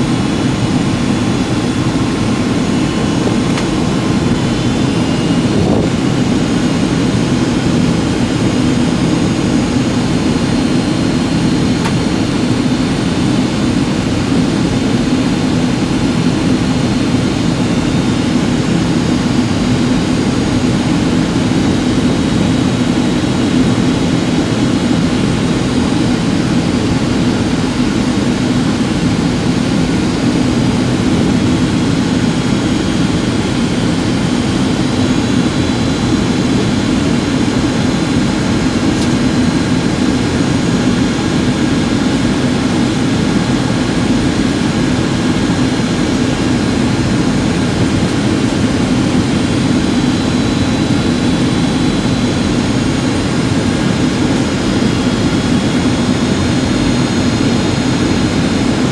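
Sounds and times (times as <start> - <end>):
jet cabin noise in flight: 0.0 - 58.9.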